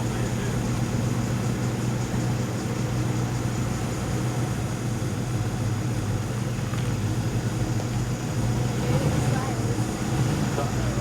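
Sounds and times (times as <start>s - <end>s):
vehicle engine low hum: 0.0s - 11.0s.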